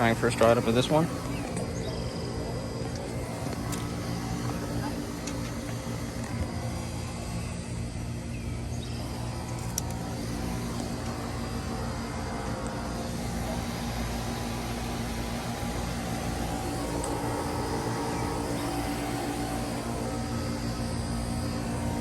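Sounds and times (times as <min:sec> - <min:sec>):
air conditioner compressor hum: 0:00.0 - 0:22.0
condenser fan whoosh: 0:00.0 - 0:22.0.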